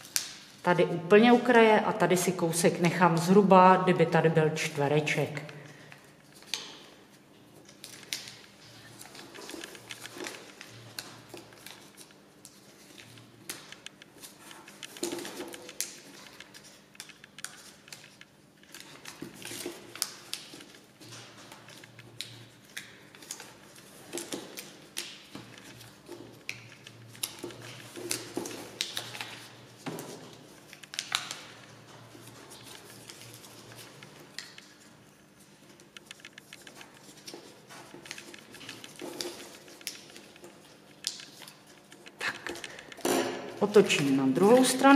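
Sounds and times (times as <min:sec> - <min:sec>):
paper rustling and crinkling: 0:05.6 - 0:44.9.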